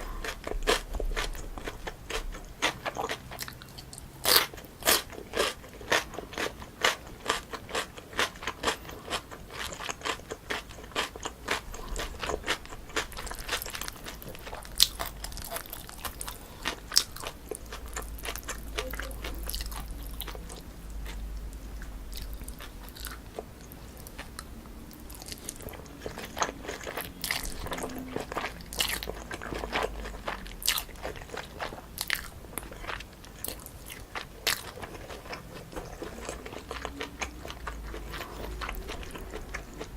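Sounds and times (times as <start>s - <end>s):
close chewing with crunches: 0.0s - 39.9s.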